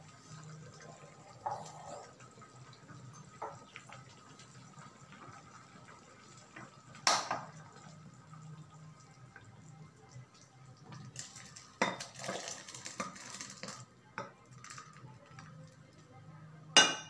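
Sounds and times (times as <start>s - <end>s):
thick gravy pouring: 0.0s - 13.9s, 14.5s - 15.8s.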